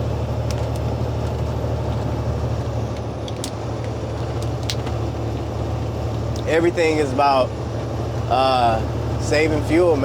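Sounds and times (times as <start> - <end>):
diesel truck engine drone: 0.0 - 10.0
road noise inside cab: 0.0 - 10.0.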